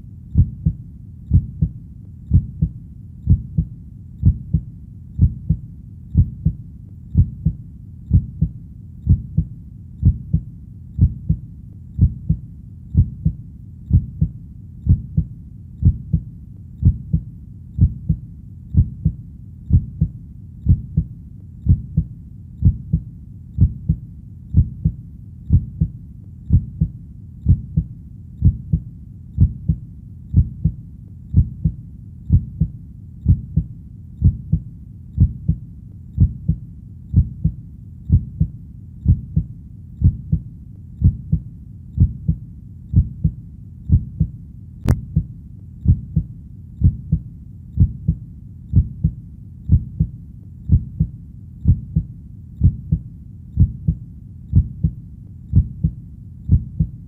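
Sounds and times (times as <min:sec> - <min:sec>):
heartbeat thumps: 0:00.0 - 0:35.6, 0:36.2 - 0:57.0.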